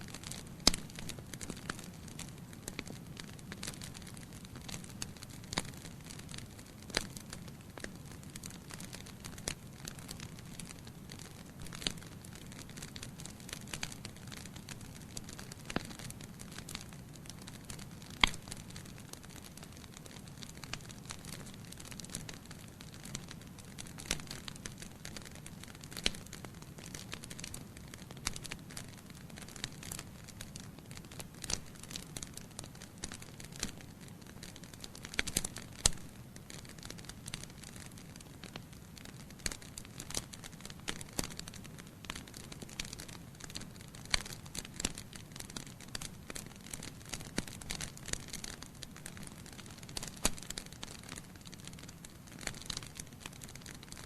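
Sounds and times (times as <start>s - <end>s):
burning logs crackling and popping: 0.0s - 54.0s.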